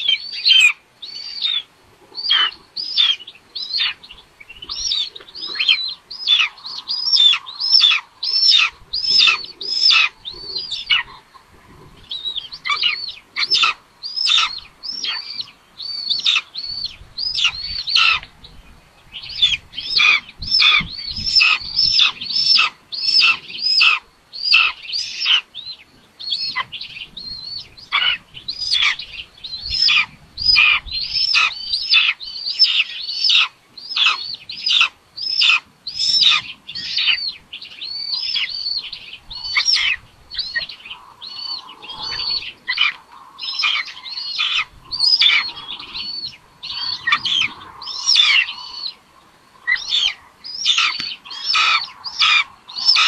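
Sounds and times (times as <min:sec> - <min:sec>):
nestling raptors begging calls: 0:00.0 - 0:53.0.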